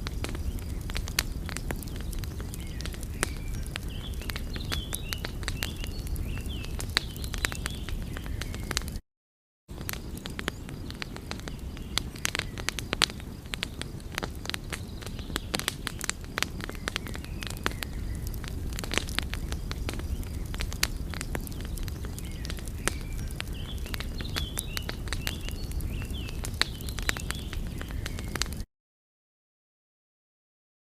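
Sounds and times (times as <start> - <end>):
low rumble of burning: 0.0 - 9.0, 9.7 - 28.6
sharp pops and snaps: 0.0 - 9.0, 9.7 - 28.7
wood fire crackling: 0.0 - 9.0, 9.7 - 28.7.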